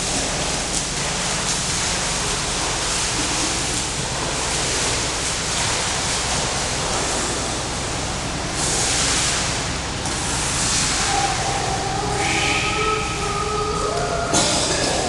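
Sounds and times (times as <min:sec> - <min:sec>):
water splashing from swimming strokes: 0:00.0 - 0:15.0.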